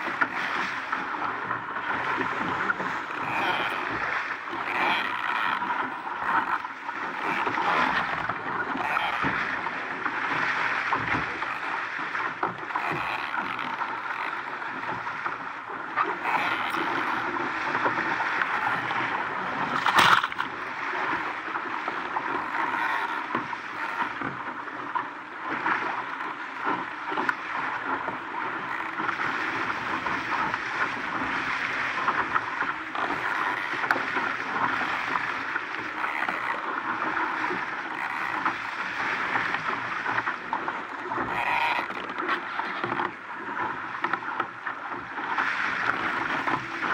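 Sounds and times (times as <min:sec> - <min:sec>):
water rushing along a hull: 0:00.0 - 0:46.9.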